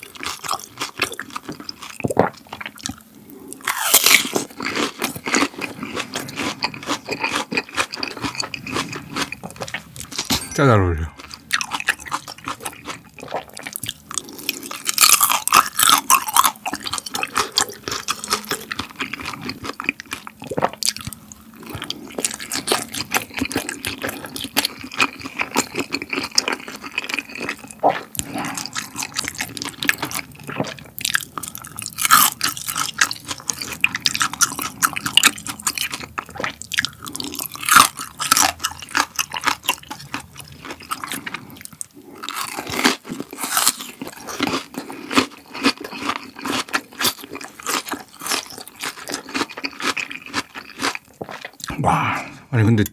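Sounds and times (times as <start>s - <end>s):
wet sticky chewing: 0.0s - 51.8s.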